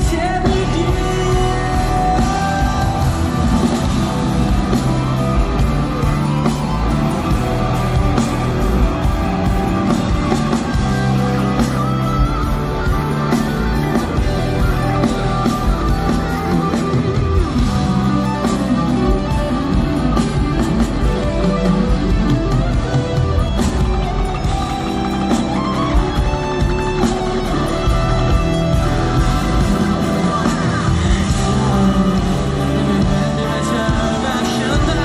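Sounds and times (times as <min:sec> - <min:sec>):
electric guitar: 0:00.0 - 0:35.0
rock band playing: 0:00.0 - 0:35.0.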